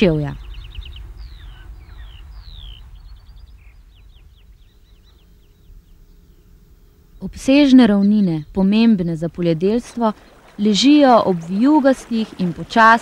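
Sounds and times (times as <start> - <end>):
low steady rumble: 0.0 - 13.0
songbirds singing: 0.0 - 13.0.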